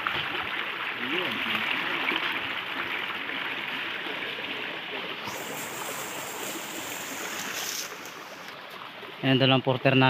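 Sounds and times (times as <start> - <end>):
mountain stream rushing: 0.0 - 9.4.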